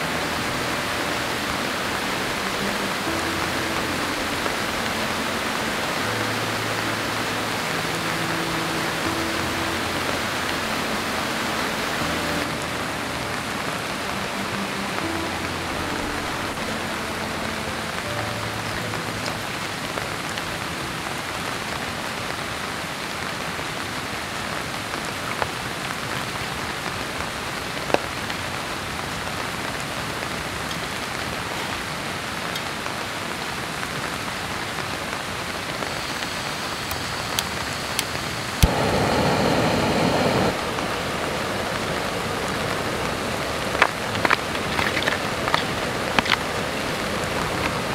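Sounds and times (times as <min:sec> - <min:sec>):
heavy rain downpour: 0:00.0 - 0:47.9.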